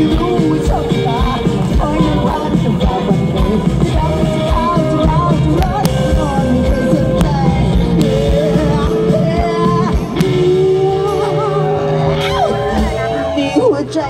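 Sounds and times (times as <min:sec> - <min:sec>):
live band with drums: 0:00.0 - 0:14.0
person singing into microphone: 0:00.0 - 0:14.0.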